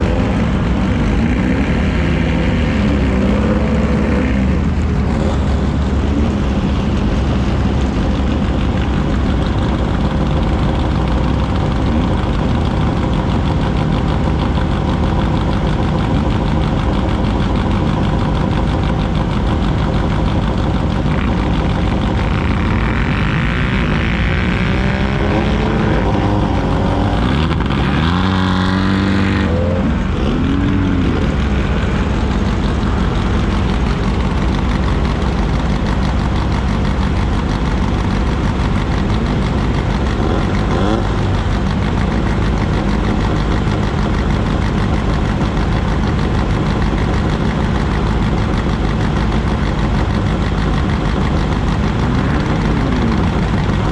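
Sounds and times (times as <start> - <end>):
car engine running: 0.0 - 53.9.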